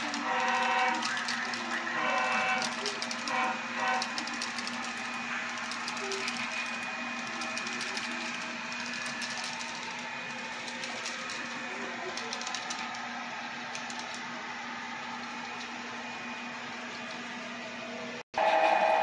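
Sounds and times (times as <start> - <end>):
model train wheels clicking: 0.0 - 15.8
steady hum: 0.0 - 19.0.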